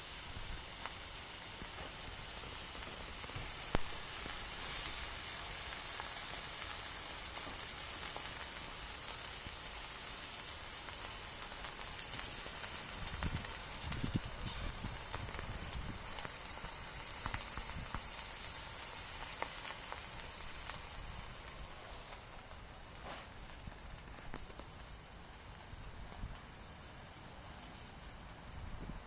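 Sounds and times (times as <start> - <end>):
meat sizzling on a griddle: 0.0 - 29.0.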